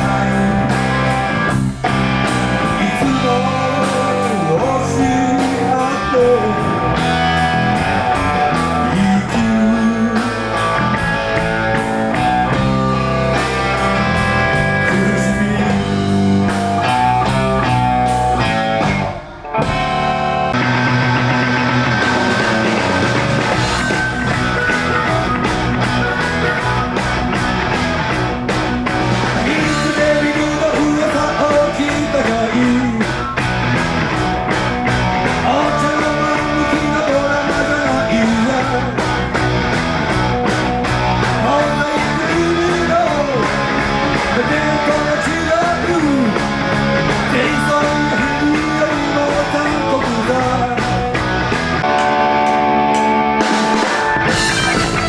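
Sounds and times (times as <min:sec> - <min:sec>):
electric guitar lead: 0:00.0 - 0:55.0
rock band playing: 0:00.0 - 0:55.0.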